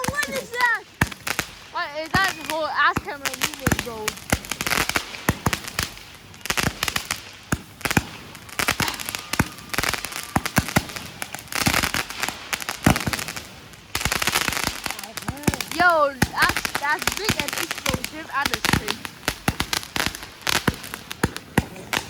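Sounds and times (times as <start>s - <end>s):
firework hiss: 0.0s - 22.0s
firework shells bursting: 0.0s - 22.0s.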